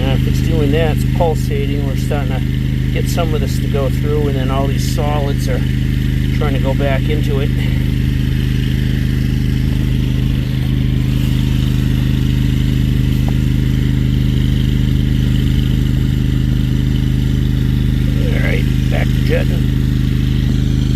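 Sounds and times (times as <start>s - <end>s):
engine and pump humming: 0.0s - 20.9s.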